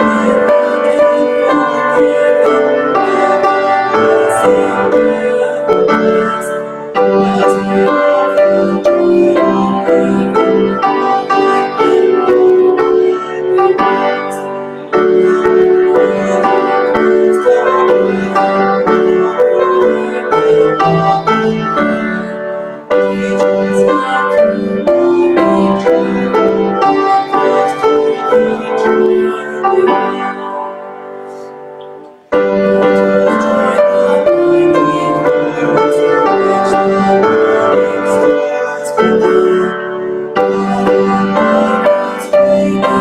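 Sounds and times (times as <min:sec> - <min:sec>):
piano playing hymn chords: 0:00.0 - 0:43.0.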